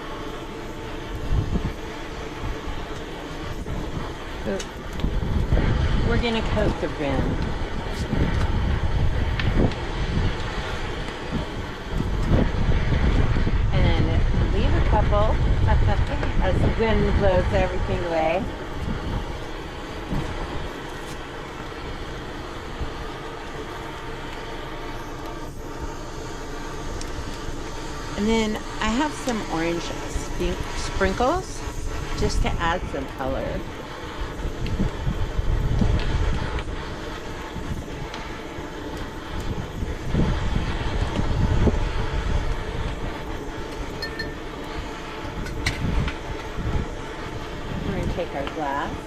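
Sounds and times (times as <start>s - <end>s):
gusty wind buffeting microphone: 0.0s - 49.0s.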